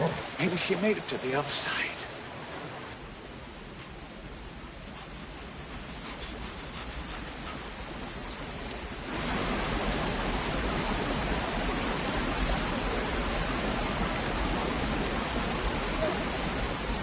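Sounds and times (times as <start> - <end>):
river and waterfall rushing: 0.0 - 17.0.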